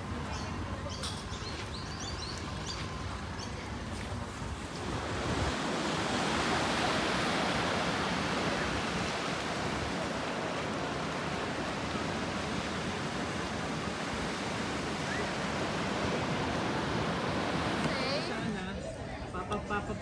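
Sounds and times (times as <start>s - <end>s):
waves washing onto beach: 1.5s - 18.6s.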